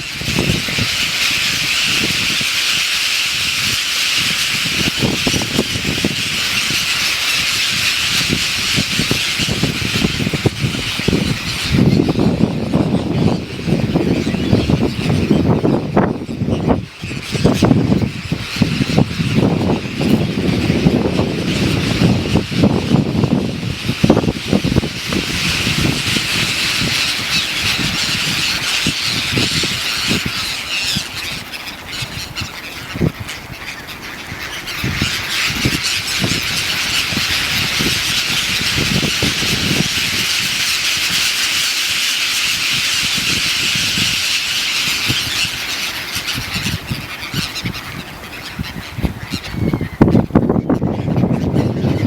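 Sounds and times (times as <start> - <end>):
flock of birds calling: 0.0 - 52.0
wind gusts on microphone: 0.0 - 52.0.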